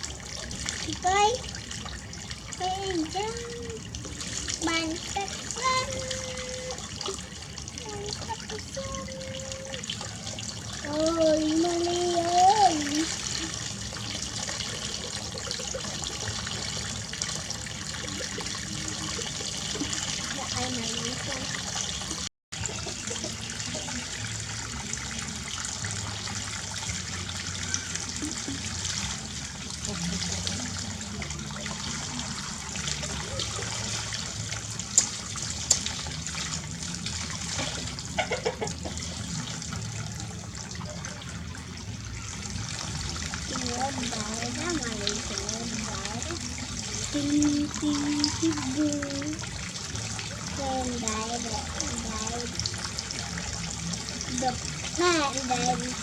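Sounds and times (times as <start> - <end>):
water running from a tap: 0.0 - 56.0.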